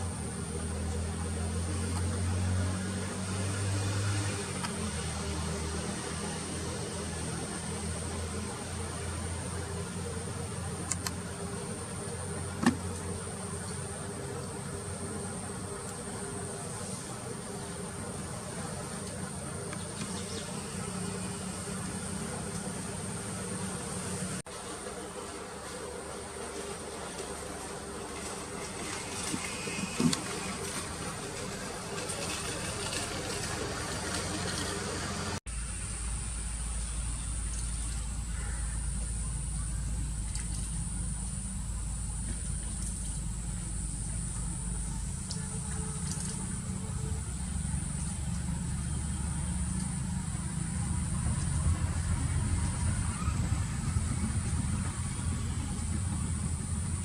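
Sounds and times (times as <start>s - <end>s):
low background hum: 4.3s - 57.0s.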